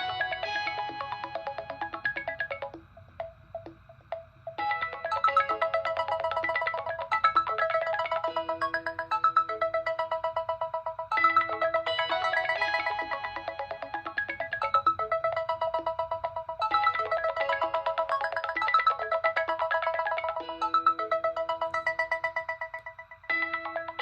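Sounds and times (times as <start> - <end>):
electronic ringtone melody: 0.0 - 24.0.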